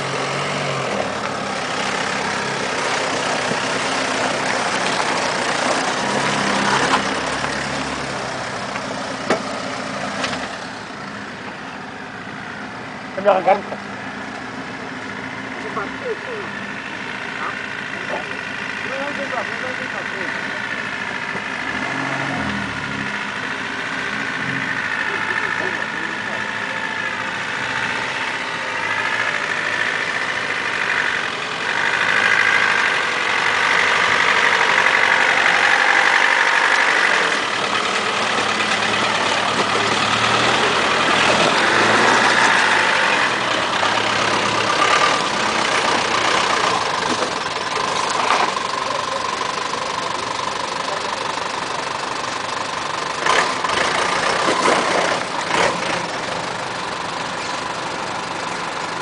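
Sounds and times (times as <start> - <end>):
off-road engines under load: 0.0 - 59.0.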